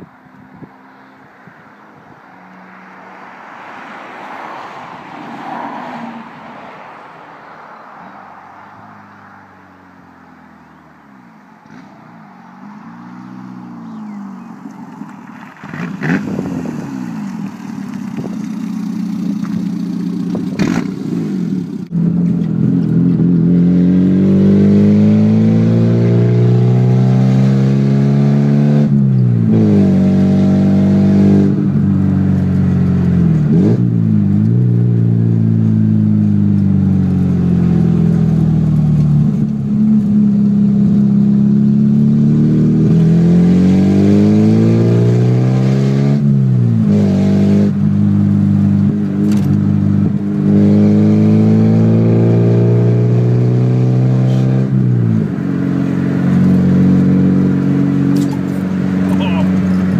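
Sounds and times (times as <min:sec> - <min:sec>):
car engine revving: 0:11.6 - 0:59.9.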